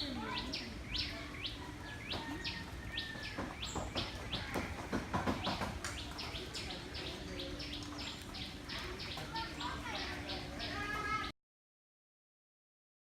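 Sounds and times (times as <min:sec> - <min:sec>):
small birds chirping: 0:00.0 - 0:11.3.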